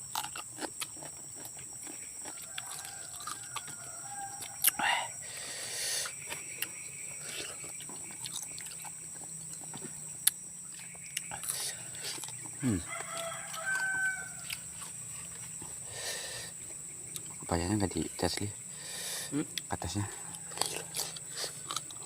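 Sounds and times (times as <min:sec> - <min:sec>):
crunchy chewing of raw fruit: 0:00.0 - 0:22.0.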